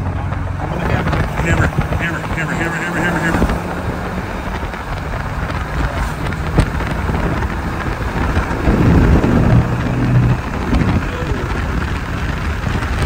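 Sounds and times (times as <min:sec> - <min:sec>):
vehicle road noise rumble: 0:00.0 - 0:13.0
wind buffeting microphone: 0:00.0 - 0:13.0.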